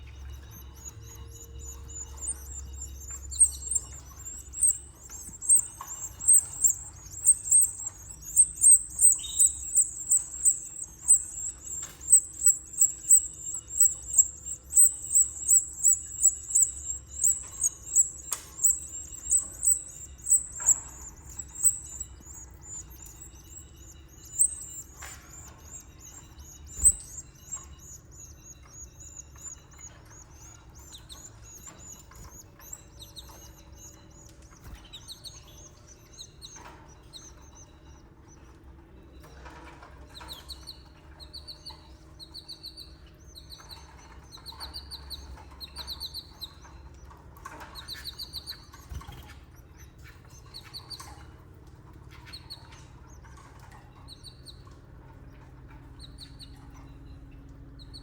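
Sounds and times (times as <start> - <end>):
canary chirping: 0.0 - 58.0.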